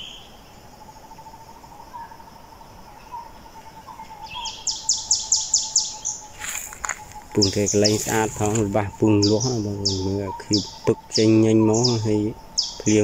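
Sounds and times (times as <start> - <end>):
faint drone of insects: 0.0 - 13.0.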